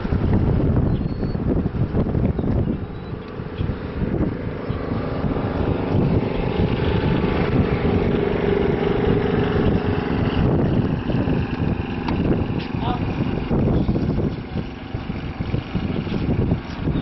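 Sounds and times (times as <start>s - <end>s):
vehicle engine humming: 0.0s - 17.0s
wind rumbling on microphone: 0.0s - 17.0s.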